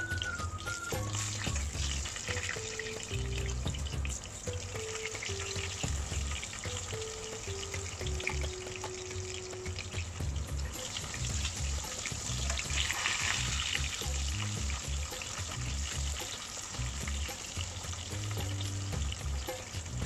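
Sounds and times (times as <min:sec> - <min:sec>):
background music with pulsing bass: 0:00.0 - 0:20.0
vegetable slices sizzling in oil: 0:00.0 - 0:20.0.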